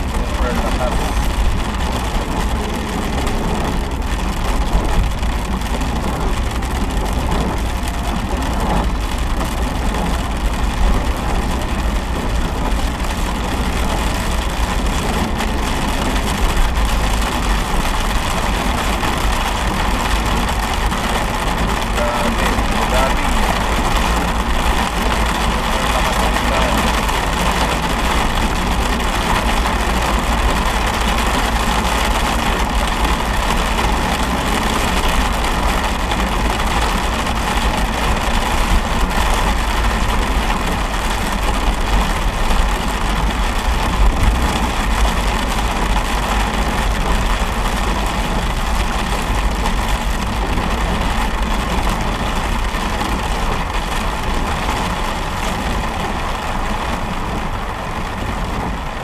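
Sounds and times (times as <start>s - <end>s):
car engine and road rumble: 0.0s - 59.0s
rain hissing on car: 0.0s - 59.0s.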